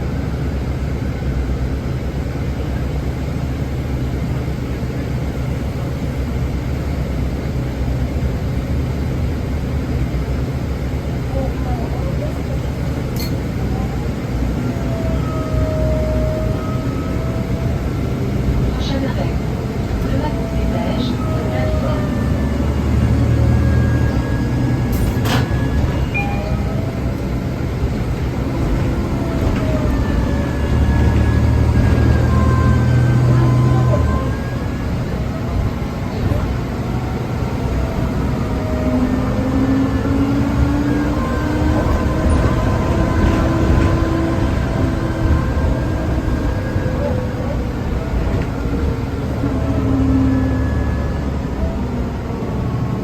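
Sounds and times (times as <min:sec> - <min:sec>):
bus engine rumble: 0:00.0 - 0:53.0
engine whine: 0:00.0 - 0:53.0
road noise: 0:00.0 - 0:53.0.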